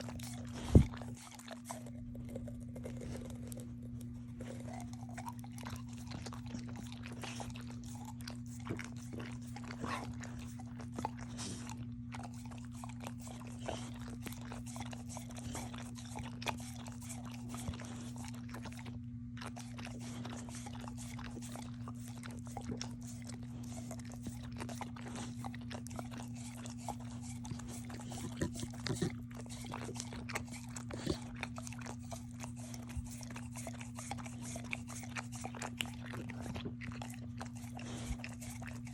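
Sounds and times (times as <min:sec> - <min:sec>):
dog crunching a hard snack: 0:00.0 - 0:38.9
steady low hum: 0:00.0 - 0:38.9.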